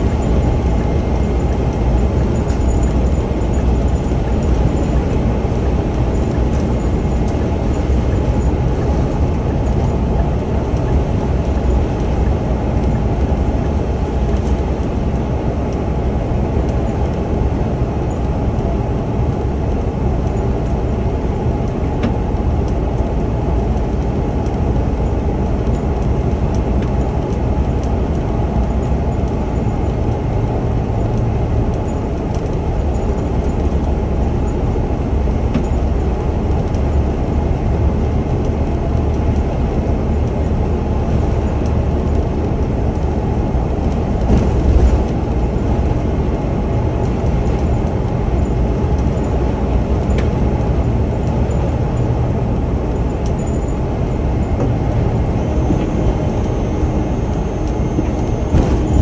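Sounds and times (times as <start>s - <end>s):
bus interior drone: 0.0s - 59.0s.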